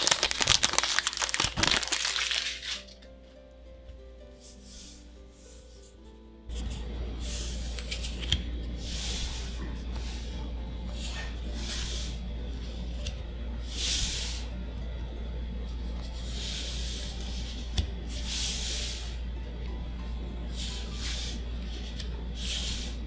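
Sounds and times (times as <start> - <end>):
steady low hum: 3.3 - 23.0.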